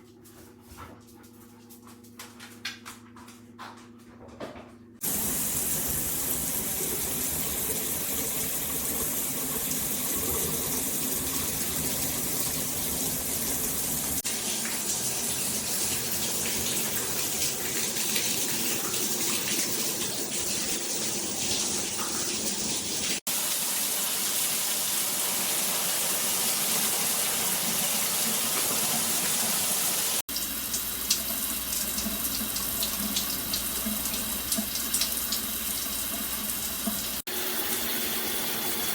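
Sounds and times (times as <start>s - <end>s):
shower water spraying: 5.0s - 38.9s.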